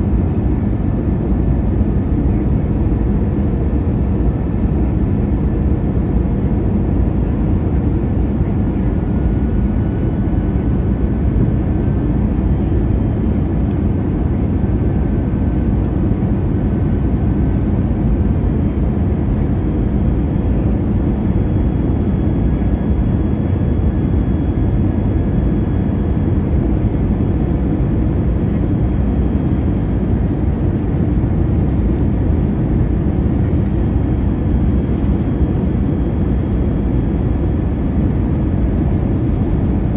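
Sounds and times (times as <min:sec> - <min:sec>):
aircraft engines and rushing air: 0:00.0 - 0:39.9.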